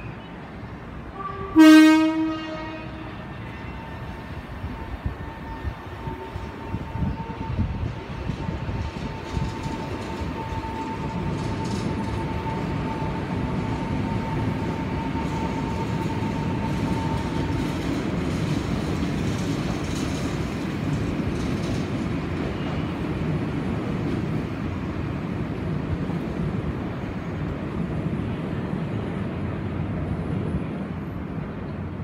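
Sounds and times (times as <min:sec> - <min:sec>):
electric train whine: 0:00.1 - 0:32.0
train wheels rumbling over rails: 0:00.4 - 0:32.0.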